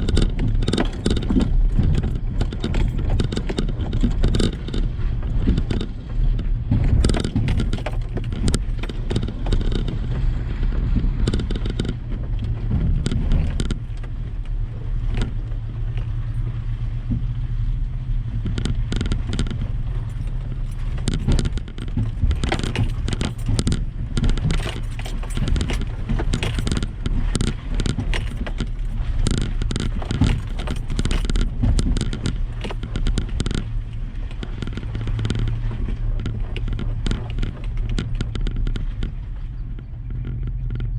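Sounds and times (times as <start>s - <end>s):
sharp rattles and knocks: 0.0s - 40.9s
truck engine running low: 0.0s - 40.9s.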